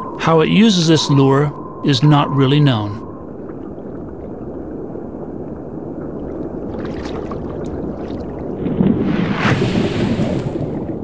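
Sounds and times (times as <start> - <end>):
low underwater rushing: 0.0 - 11.0.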